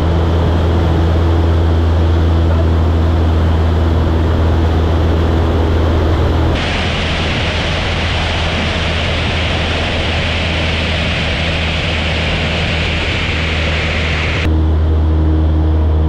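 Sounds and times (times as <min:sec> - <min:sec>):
wind rushing over microphone: 0:00.0 - 0:14.5
aircraft engine drone: 0:00.0 - 0:16.0.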